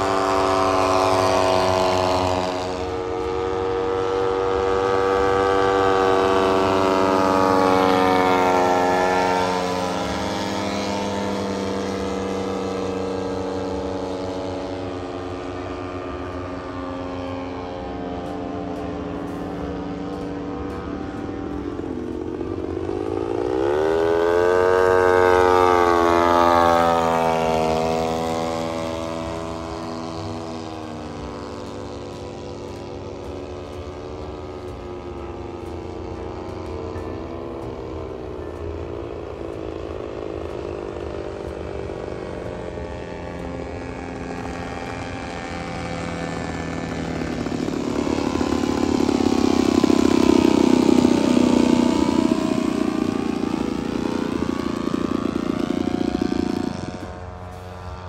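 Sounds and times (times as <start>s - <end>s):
model biplane propeller engines: 0.0s - 58.0s.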